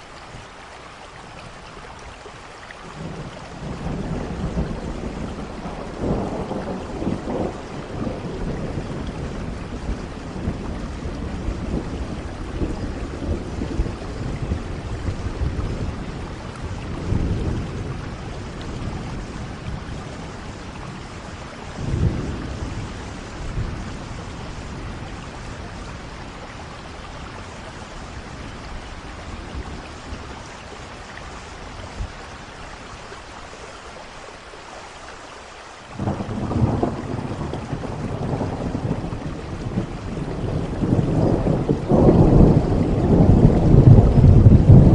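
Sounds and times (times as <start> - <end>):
steady rain: 0.0 - 44.9
thunder rumbling: 3.0 - 32.4, 36.0 - 44.9.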